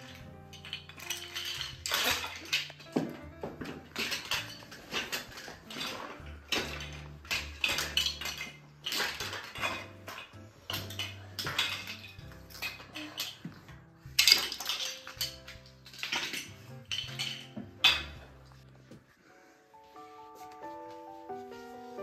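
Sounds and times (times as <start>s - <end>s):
toy pieces clattering into box: 0.0s - 13.6s, 14.2s - 18.3s.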